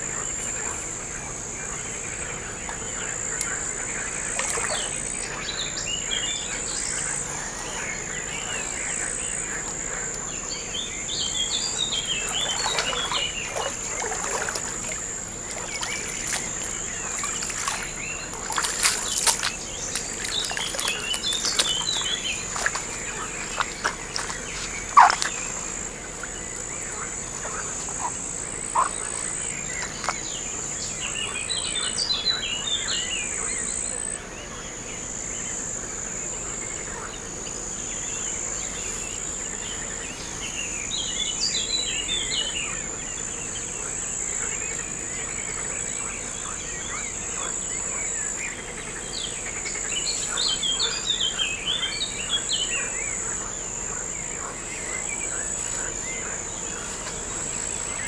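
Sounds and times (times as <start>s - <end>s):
birds singing trills: 0.0s - 35.7s, 36.6s - 58.0s
insects chirring: 0.0s - 58.0s.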